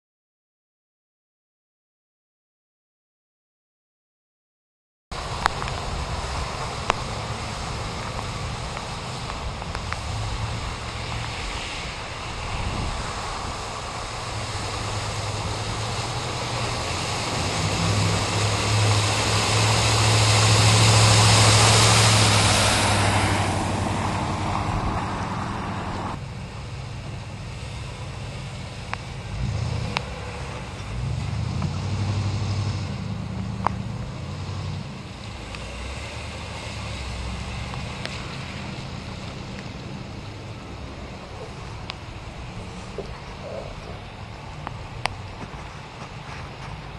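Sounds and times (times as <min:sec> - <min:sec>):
vehicle engines running: 0:05.1 - 0:46.9
tyres splashing through water: 0:05.2 - 0:46.9.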